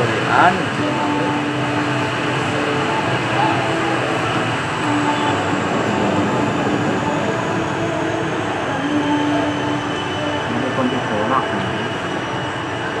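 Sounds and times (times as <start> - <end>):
high turbine whine: 0.0 - 13.0
propeller and engine noise: 0.0 - 13.0.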